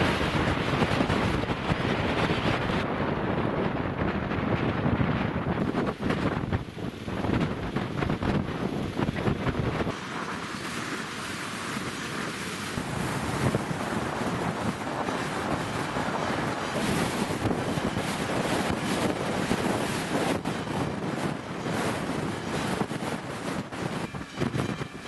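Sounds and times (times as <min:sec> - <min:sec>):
floodwater rushing: 0:00.0 - 0:02.8, 0:05.5 - 0:25.0
wind gusting on microphone: 0:00.0 - 0:25.0.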